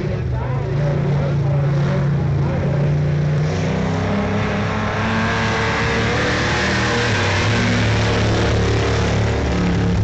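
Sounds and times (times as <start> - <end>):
race car engines running: 0.0 - 10.0.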